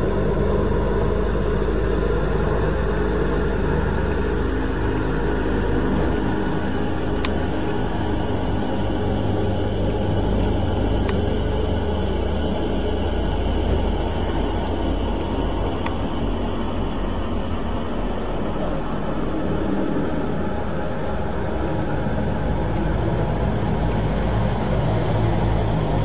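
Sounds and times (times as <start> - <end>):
helicopter passing overhead: 0.0 - 26.0.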